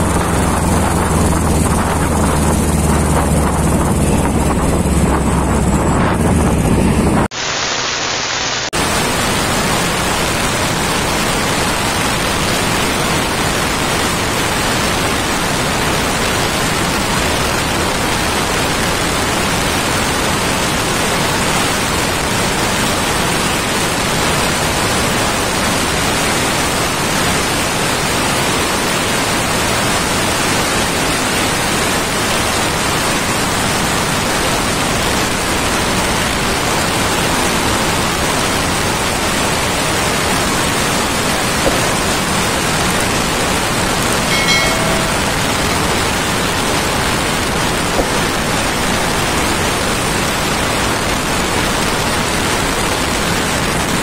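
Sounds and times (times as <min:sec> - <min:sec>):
loud static hiss: 0:00.0 - 0:54.0.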